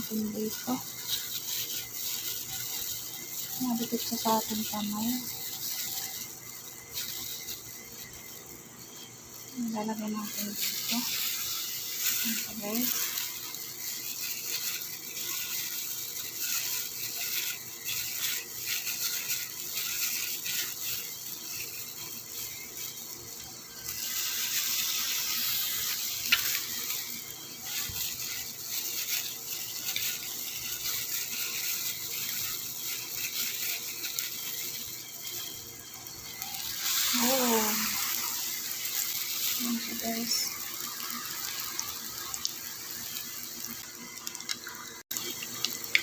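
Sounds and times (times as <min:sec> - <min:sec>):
deep-frying sizzle: 0:00.0 - 0:46.0.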